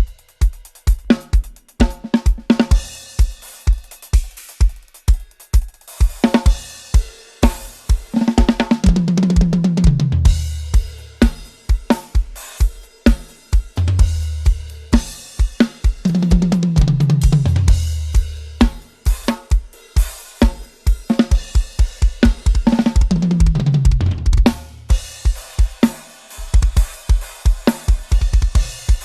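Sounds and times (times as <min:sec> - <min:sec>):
cymbals: 0:00.0 - 0:09.0, 0:10.2 - 0:23.2, 0:24.4 - 0:29.0
drum kit groove: 0:00.0 - 0:29.0.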